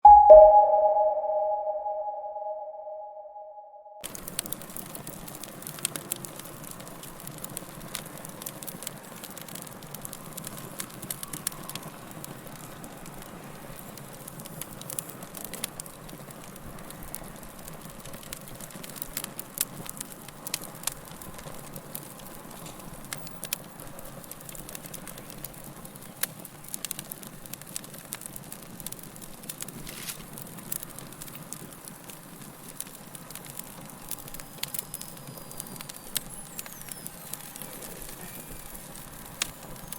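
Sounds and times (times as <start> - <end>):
fire crackling and popping: 4.0 - 39.9.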